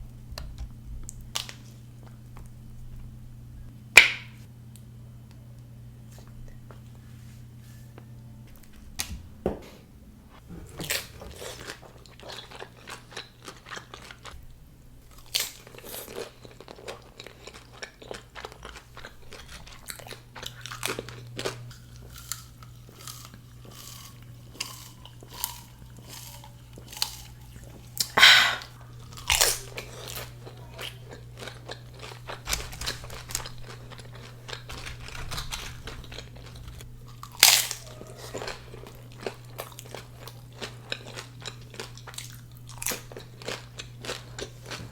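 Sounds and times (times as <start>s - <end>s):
faint low hum: 0.0s - 44.9s
crunching and chewing of chips: 0.4s - 3.1s, 10.5s - 44.9s.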